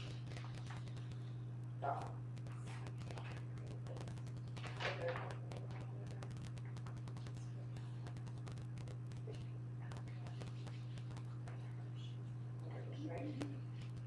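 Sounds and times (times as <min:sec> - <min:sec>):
faint clicks: 0:00.0 - 0:14.0
steady low hum: 0:00.0 - 0:14.0.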